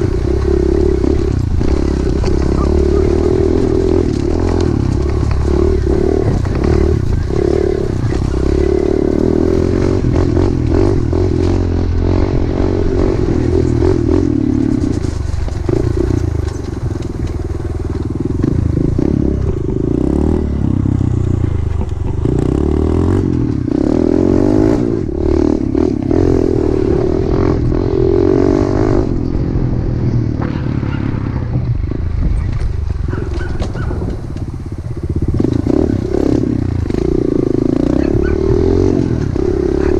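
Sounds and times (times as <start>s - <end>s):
pit bike engine revving: 0.0s - 32.0s, 32.9s - 39.9s
knocks and rattles on rough trail: 0.0s - 39.9s.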